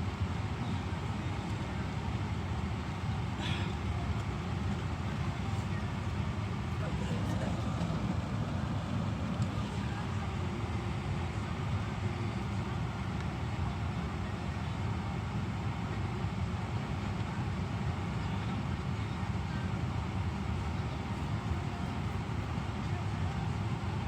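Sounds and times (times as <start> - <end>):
low constant rumble: 0.0 - 24.0.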